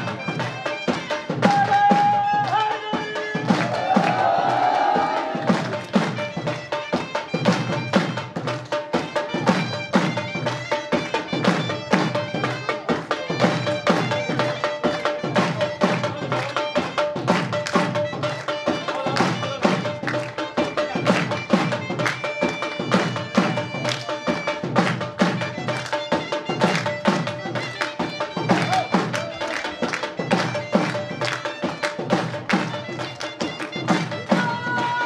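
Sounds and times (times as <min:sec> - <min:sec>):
drum beating fast rhythm: 0:00.0 - 0:35.0.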